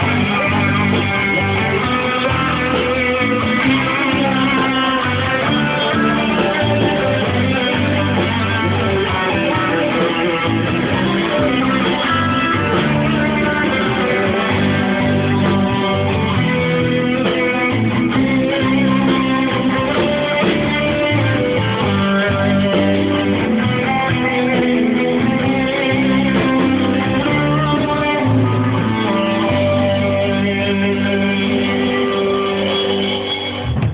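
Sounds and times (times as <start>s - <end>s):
band music with guitars: 0.0s - 33.9s
steady bass line: 0.0s - 33.9s.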